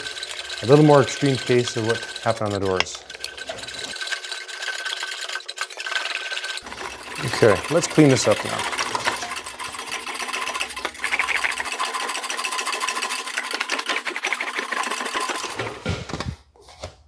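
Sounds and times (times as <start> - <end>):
metallic rattle of sheet metal rolling: 0.0 - 15.8.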